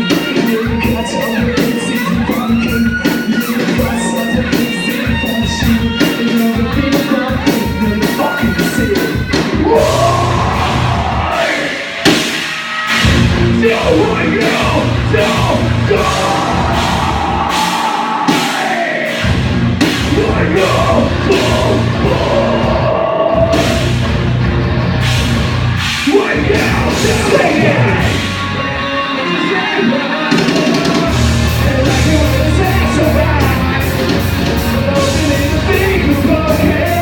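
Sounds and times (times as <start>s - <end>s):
sung and yelled vocals: 0.0s - 24.1s, 25.9s - 37.0s
heavy rock band playing: 0.0s - 37.0s
pounding drum kit: 0.0s - 37.0s.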